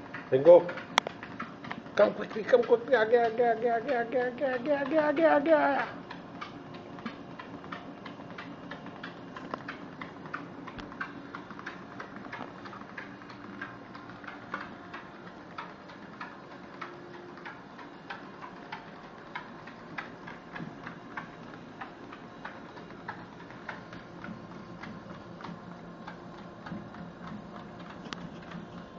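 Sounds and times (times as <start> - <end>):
dog claws tapping on treadmill: 0.0 - 28.9
treadmill hum: 0.0 - 28.9.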